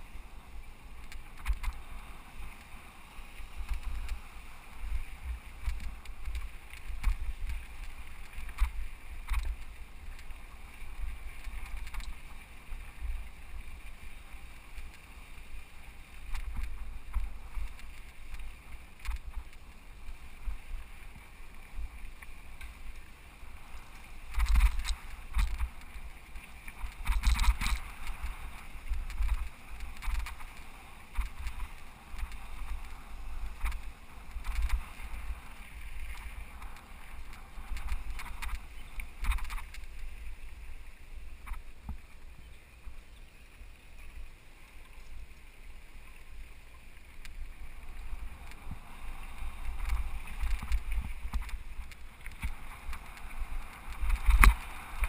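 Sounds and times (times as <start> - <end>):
wind rumbling on microphone: 0.0 - 55.0
bike rattling over rough ground: 0.9 - 40.2, 47.2 - 55.0.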